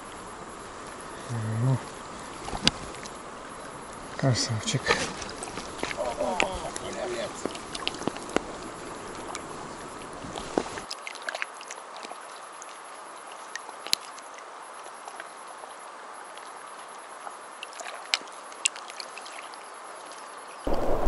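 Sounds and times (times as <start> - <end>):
lake water lapping: 0.0 - 21.0
small clicks and drips: 0.1 - 20.6.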